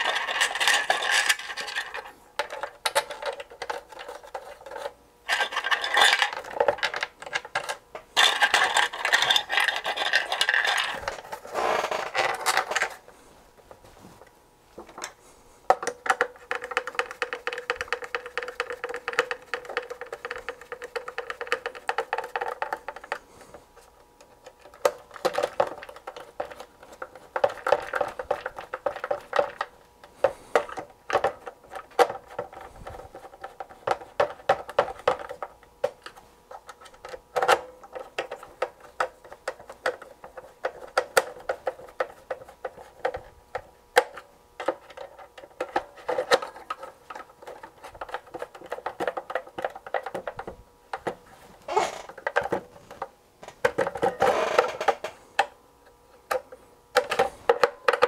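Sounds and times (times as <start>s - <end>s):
clicks and knocks of handling: 0.0s - 58.0s.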